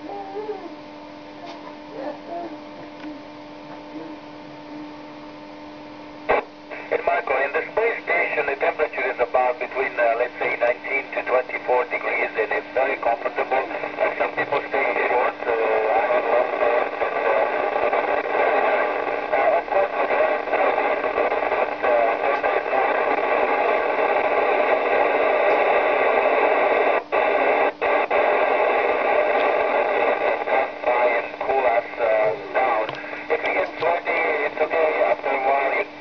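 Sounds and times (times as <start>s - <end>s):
radio static: 1.2s - 36.0s.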